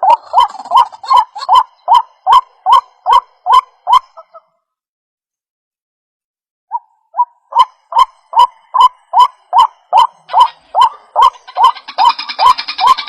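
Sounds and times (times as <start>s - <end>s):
waterhen calling: 0.0s - 4.5s, 6.7s - 13.0s.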